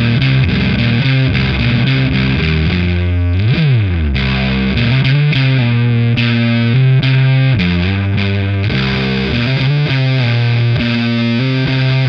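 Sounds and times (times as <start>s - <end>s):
distorted electric guitar riff: 0.0s - 12.0s.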